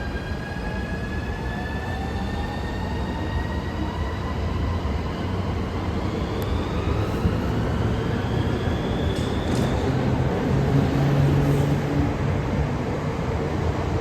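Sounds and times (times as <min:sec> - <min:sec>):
train accelerating whine: 0:00.0 - 0:14.0.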